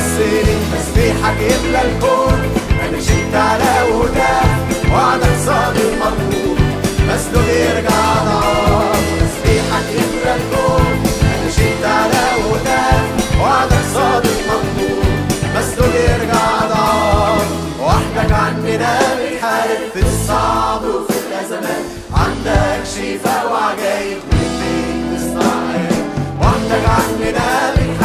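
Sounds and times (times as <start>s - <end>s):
drum kit beat: 0.0s - 28.0s
group singing with lead voice: 0.0s - 28.0s.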